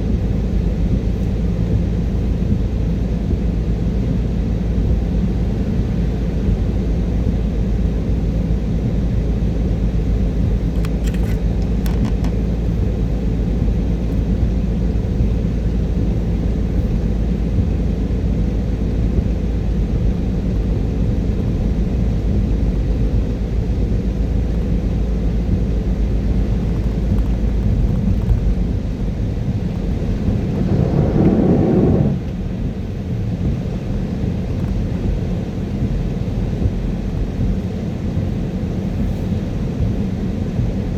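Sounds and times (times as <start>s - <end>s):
car driving on wet road: 0.0s - 40.9s.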